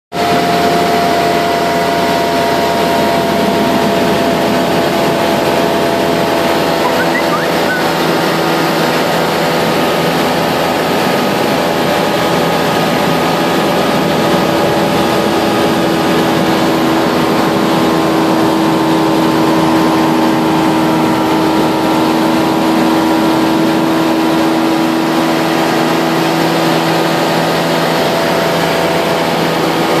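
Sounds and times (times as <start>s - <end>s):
aircraft engine and propeller drone: 0.2s - 30.0s.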